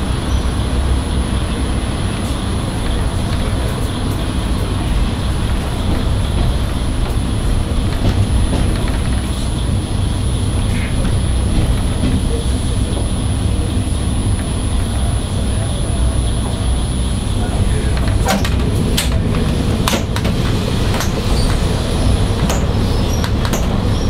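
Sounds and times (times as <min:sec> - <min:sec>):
diesel engine drone: 0:00.0 - 0:24.0
wheels rumbling on track: 0:00.0 - 0:24.0.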